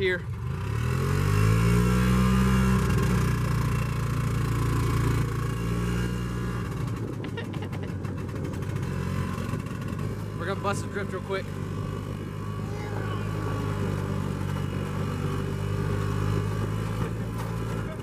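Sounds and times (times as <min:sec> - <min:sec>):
golf cart engine running: 0:00.0 - 0:18.0.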